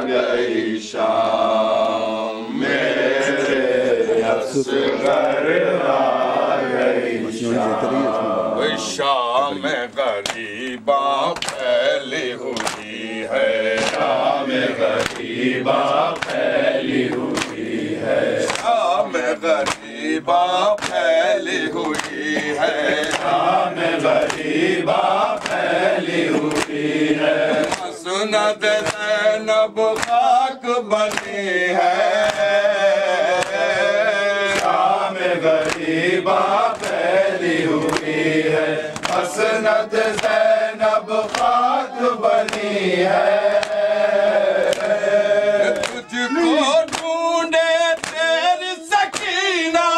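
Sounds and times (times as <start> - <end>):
group of voices chanting: 0.0 - 49.9
rhythmic chest-beating: 0.0 - 49.9.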